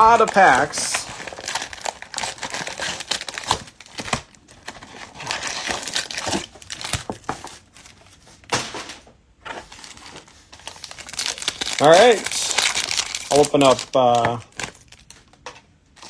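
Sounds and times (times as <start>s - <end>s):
plastic wrapping crinkling and tearing: 0.0s - 8.2s, 9.7s - 15.4s.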